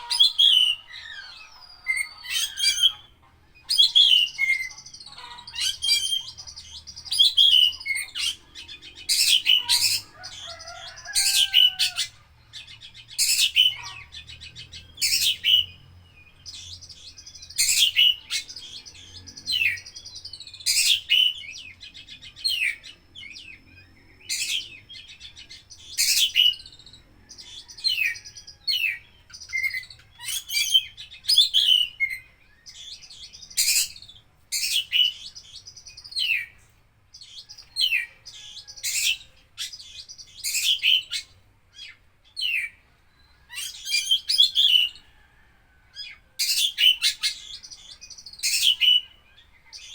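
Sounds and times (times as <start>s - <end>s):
songbird singing with whistles: 0.0s - 45.3s, 45.9s - 49.9s.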